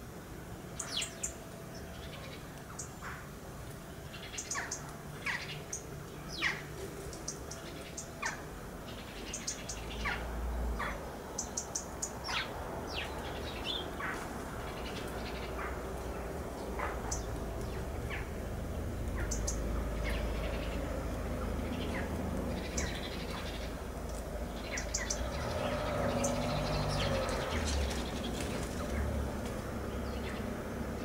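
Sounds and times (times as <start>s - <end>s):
sparrows chirping: 0.6s - 31.0s.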